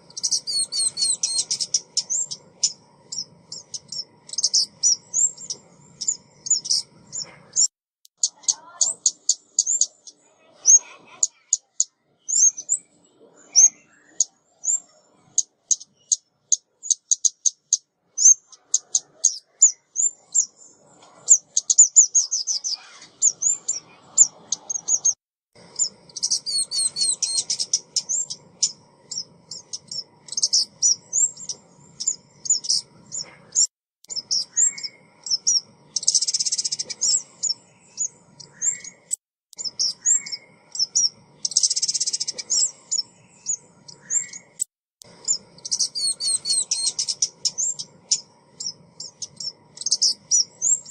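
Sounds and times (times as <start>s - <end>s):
songbird chip notes and twitters: 0.0s - 50.9s.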